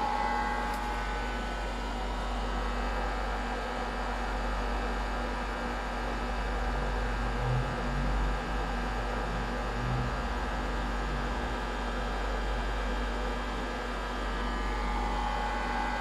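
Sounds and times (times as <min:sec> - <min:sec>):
low mains hum: 0:00.0 - 0:16.0.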